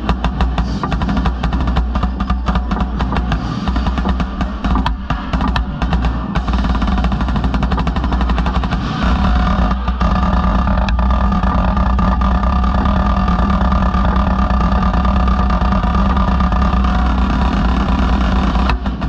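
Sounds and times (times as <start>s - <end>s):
snare drum rolls: 0.0s - 19.0s
steady low tones: 0.0s - 19.0s
tenor and bass drums: 0.0s - 19.0s.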